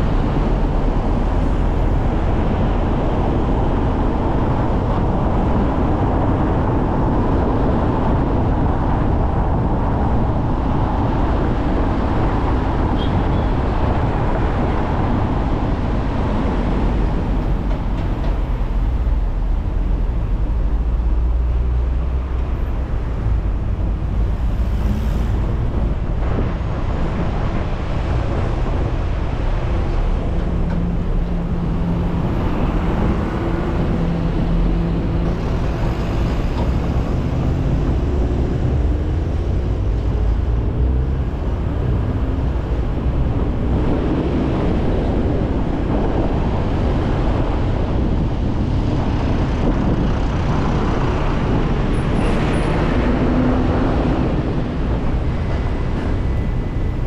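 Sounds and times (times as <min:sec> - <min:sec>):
car tyre and engine rumble: 0:00.0 - 0:57.0.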